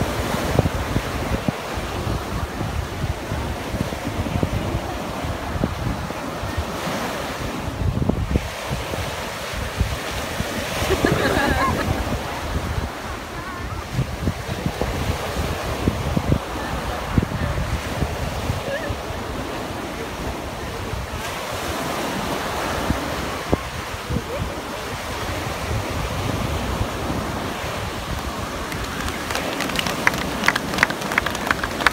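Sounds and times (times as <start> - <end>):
ocean surf breaking: 0.0 - 31.9
wind buffeting microphone: 0.0 - 31.9.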